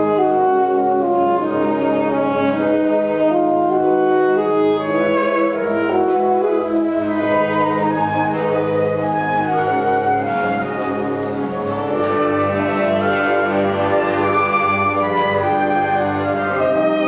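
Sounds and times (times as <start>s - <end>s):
alto saxophone solo: 0.0s - 17.0s
wind band playing chords: 0.0s - 17.0s.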